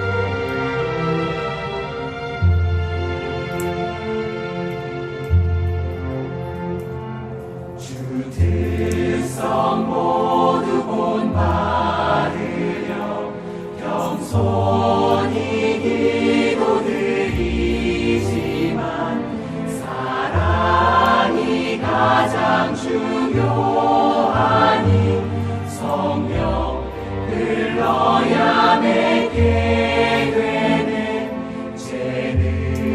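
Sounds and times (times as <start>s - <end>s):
choir singing sustained notes: 0.0s - 32.9s.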